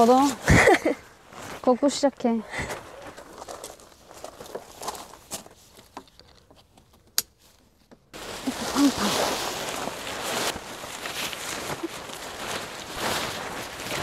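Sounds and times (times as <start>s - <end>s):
tent fabric rustling: 0.0s - 6.0s, 7.4s - 14.0s.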